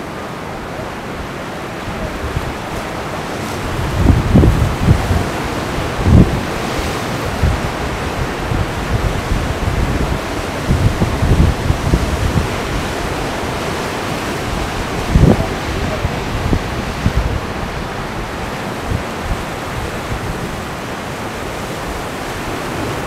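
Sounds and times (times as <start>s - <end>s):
surf washing against rocks: 0.0s - 23.0s
wind buffeting microphone: 0.0s - 23.0s.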